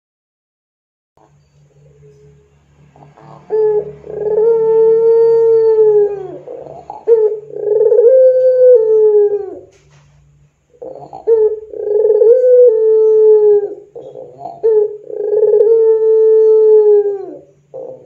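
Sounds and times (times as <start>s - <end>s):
dove cooing: 1.8s - 18.0s.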